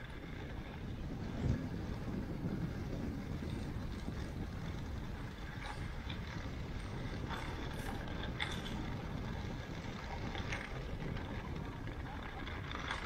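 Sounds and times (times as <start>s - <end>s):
faint clicks and scrapes: 0.0s - 13.0s
wind buffeting microphone: 0.0s - 13.0s.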